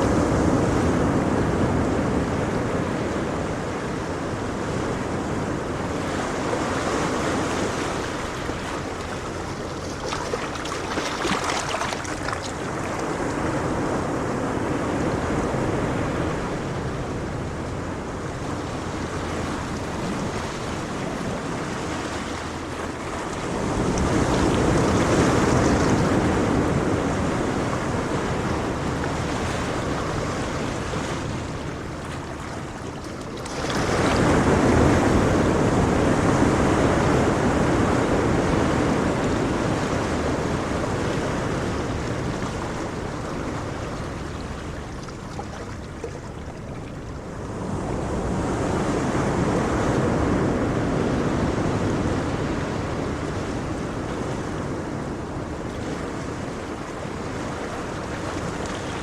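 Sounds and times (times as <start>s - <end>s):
ocean waves washing ashore: 0.0s - 59.0s.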